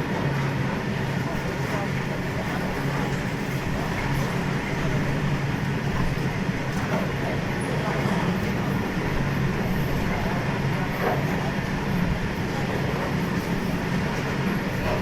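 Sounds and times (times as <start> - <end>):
freight train rail rumble: 0.0 - 15.0.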